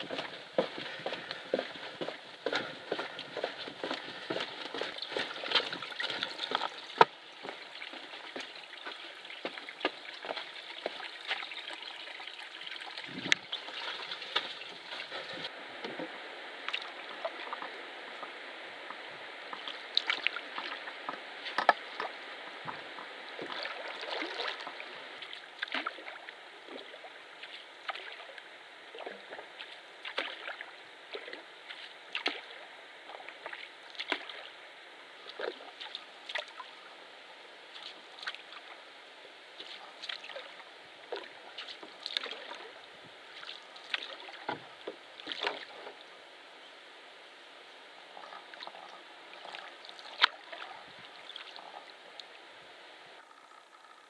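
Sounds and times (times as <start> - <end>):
water drips and splashes: 0.0 - 15.5, 16.6 - 18.3, 18.9 - 36.9, 37.7 - 38.8, 39.6 - 46.2, 48.1 - 52.4
water trickling and lapping: 0.0 - 54.0.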